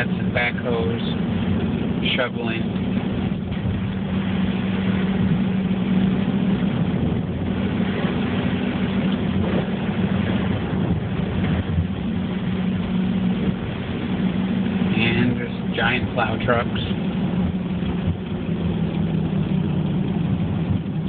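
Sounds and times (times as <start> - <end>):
car engine and road drone: 0.0 - 21.0
constant low hum: 0.0 - 21.0.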